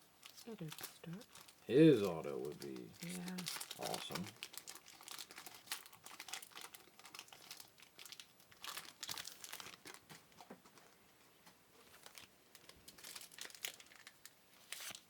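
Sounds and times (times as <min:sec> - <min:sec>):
wrappers crinkling and rustling: 0:00.2 - 0:11.0, 0:11.8 - 0:15.0.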